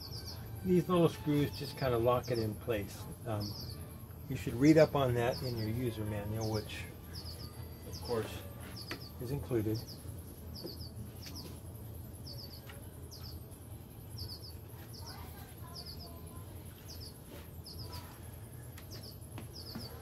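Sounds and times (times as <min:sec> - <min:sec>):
small bird chirping: 0:00.0 - 0:20.0
steady low hum: 0:00.0 - 0:20.0.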